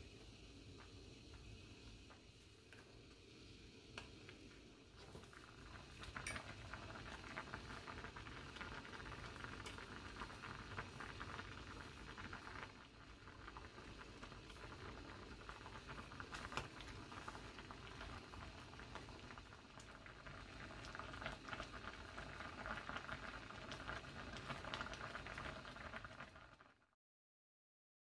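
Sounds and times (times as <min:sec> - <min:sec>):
pot of food bubbling: 0:00.0 - 0:27.0.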